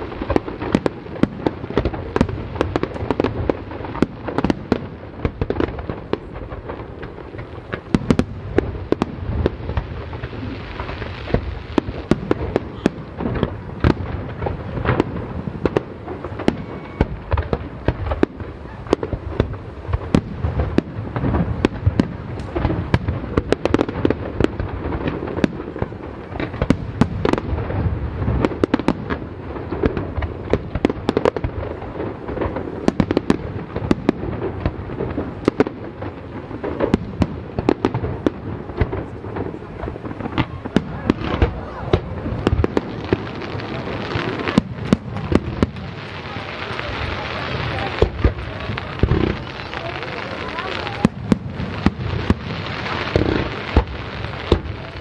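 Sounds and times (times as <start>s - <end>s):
fireworks bursts and cracks: 0.0s - 55.0s.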